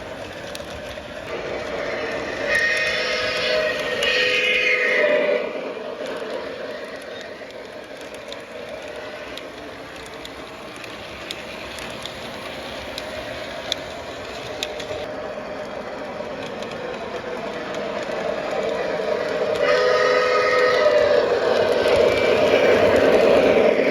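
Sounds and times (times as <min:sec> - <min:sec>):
model train motor and wheel hum: 0:00.0 - 0:23.9
wheels clicking over rail joints: 0:00.0 - 0:23.9.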